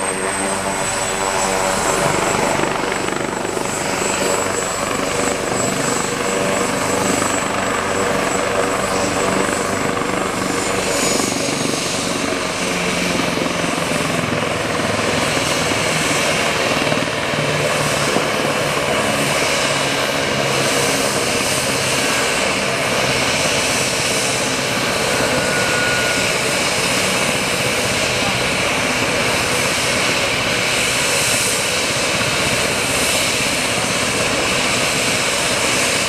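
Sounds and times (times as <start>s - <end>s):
helicopter rotor noise: 0.0s - 36.0s
helicopter turbine whine: 0.0s - 36.0s.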